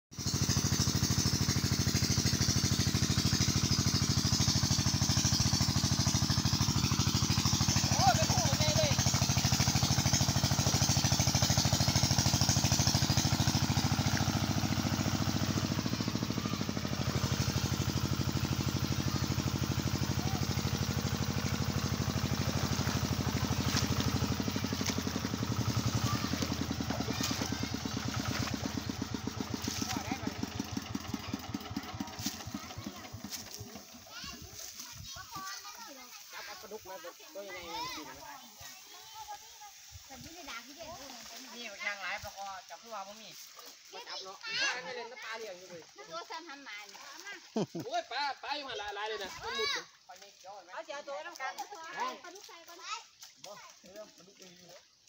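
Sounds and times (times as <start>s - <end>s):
small engine running: 0.1s - 55.0s.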